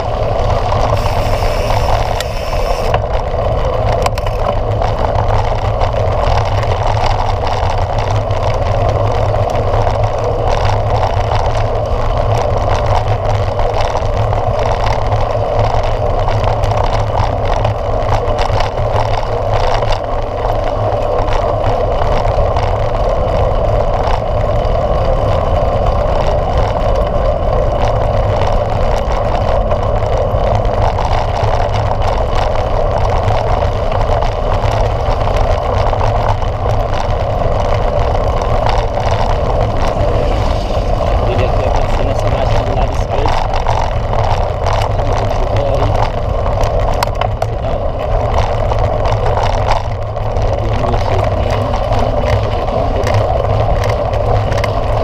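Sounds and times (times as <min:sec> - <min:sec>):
bike tyres on dirt: 0:00.0 - 0:55.0
wind rushing over camera: 0:00.0 - 0:55.0.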